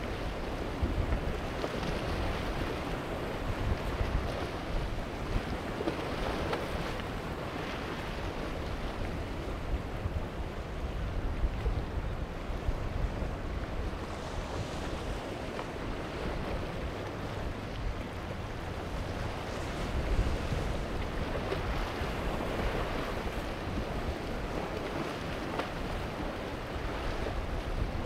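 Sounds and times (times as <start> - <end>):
waves rushing and churning: 0.0 - 28.0
wind buffeting microphone: 0.0 - 28.0.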